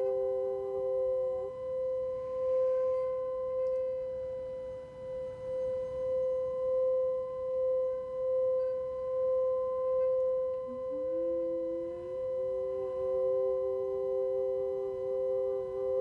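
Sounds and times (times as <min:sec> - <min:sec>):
lower sliding bowl tone: 0:00.0 - 0:16.0
singing bowl ringing: 0:00.0 - 0:16.0.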